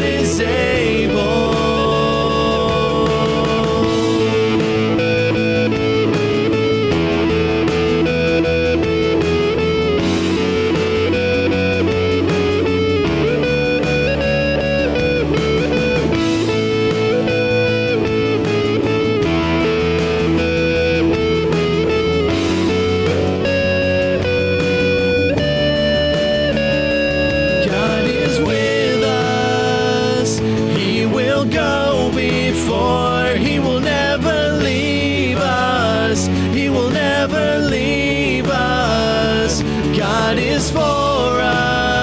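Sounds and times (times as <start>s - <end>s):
guitar-led band playing: 0.0s - 42.0s.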